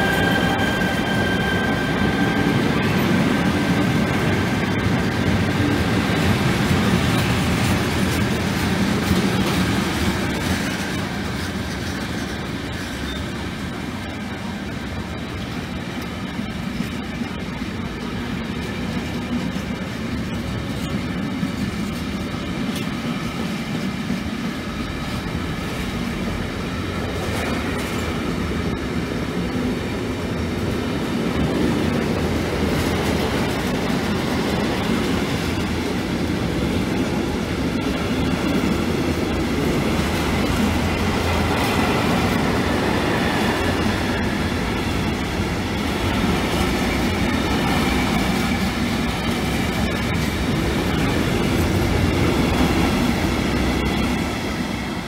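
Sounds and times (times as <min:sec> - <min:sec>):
freight train wheels clattering: 0:00.0 - 0:55.0.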